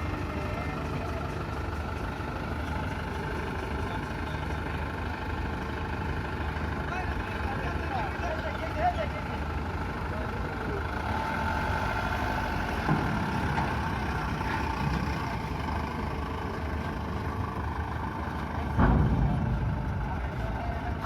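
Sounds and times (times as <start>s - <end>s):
heavy vehicle engines rumbling: 0.0s - 21.0s.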